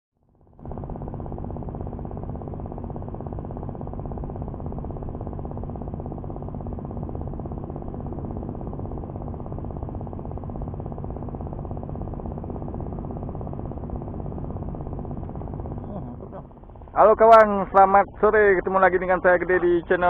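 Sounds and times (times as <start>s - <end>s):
low engine drone: 0.2s - 20.0s.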